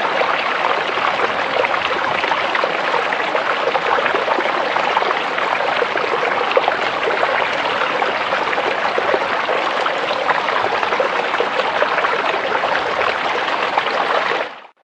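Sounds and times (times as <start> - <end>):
creek water running over rocks: 0.0 - 14.7.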